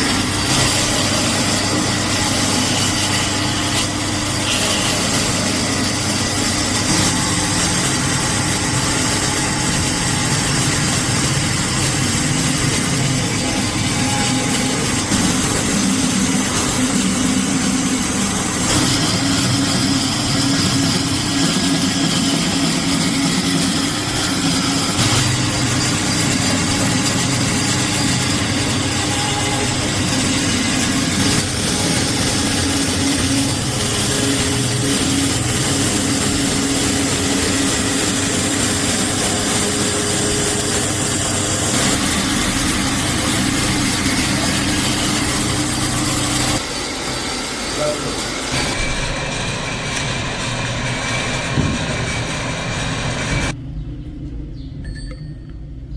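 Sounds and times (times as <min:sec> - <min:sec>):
electric power tool running: 0:00.0 - 0:53.6.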